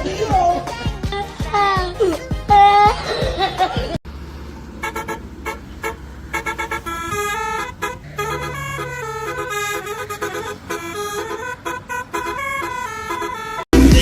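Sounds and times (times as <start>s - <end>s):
low engine hum: 0.0s - 13.6s
multi-tone air horn tooting: 1.8s - 14.0s.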